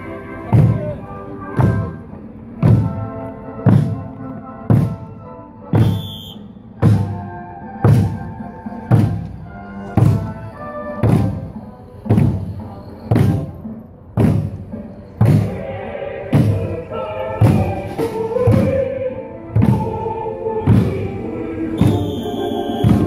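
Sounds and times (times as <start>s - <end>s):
march tune: 0.0s - 23.0s
barrel drums beating: 0.5s - 5.1s, 5.8s - 6.1s, 6.8s - 19.0s, 19.6s - 21.0s, 21.8s - 23.0s.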